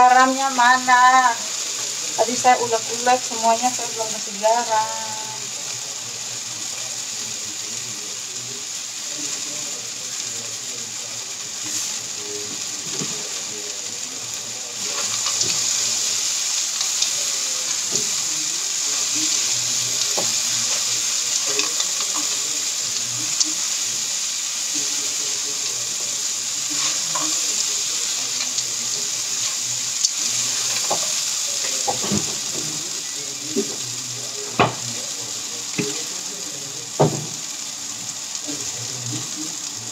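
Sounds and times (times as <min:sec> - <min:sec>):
food sizzling in a wok: 0:00.0 - 0:39.9.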